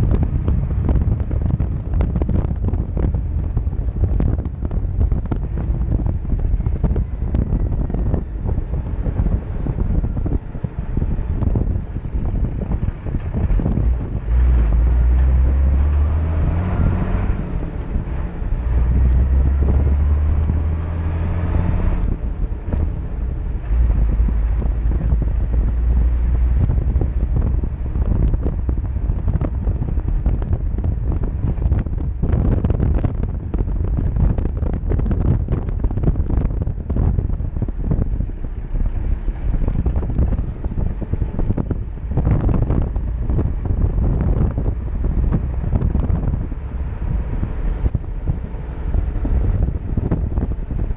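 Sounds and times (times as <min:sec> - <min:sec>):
car engine running: 0:00.0 - 0:50.9
road noise: 0:00.0 - 0:50.9
wind buffeting microphone: 0:00.0 - 0:50.9.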